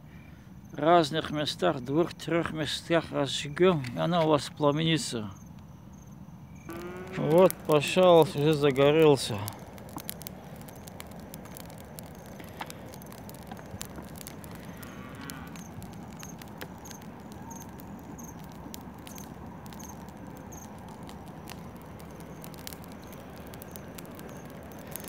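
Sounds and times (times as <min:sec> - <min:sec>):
bonfire crackling: 0:00.5 - 0:25.0.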